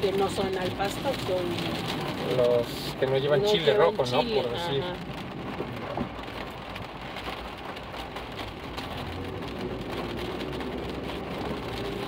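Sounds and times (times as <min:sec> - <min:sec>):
car road rumble: 0:00.0 - 0:12.0
rain on car windshield and roof: 0:00.0 - 0:12.0.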